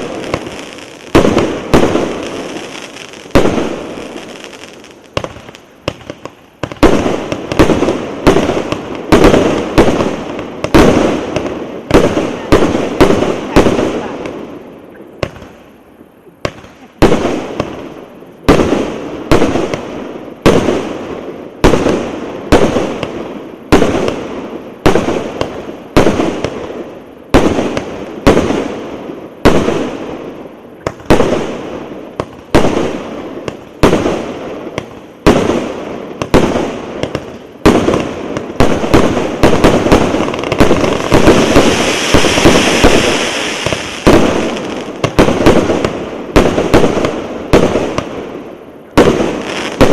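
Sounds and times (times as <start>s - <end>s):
firework bangs: 0.0s - 15.7s, 16.4s - 49.9s
firework crackle: 0.0s - 15.8s, 16.4s - 49.9s.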